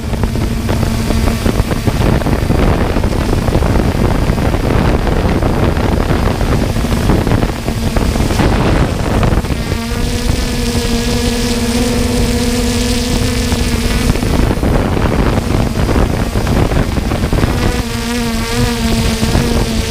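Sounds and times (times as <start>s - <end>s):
drone propellers humming: 0.0s - 19.9s
rushing air noise: 0.0s - 19.9s.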